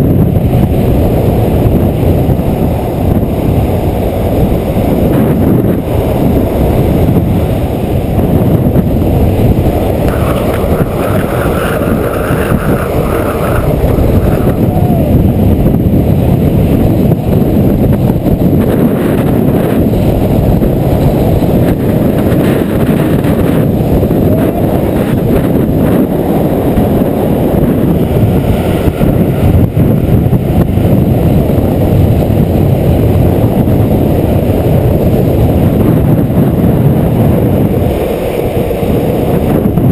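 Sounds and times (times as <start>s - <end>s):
wheels rolling on asphalt: 0.0s - 39.9s
wind blasting microphone: 0.0s - 39.9s.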